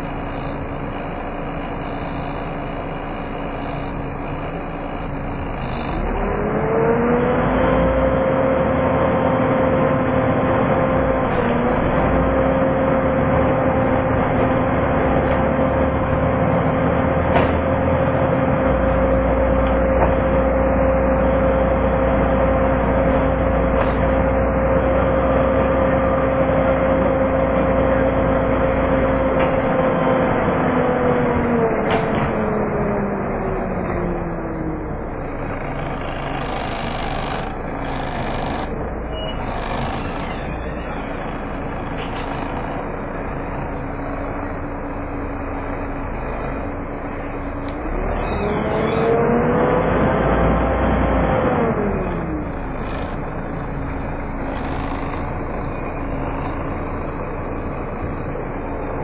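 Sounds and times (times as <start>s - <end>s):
bus engine and road noise: 0.0s - 59.0s
engine cooling fan whine: 0.0s - 59.0s.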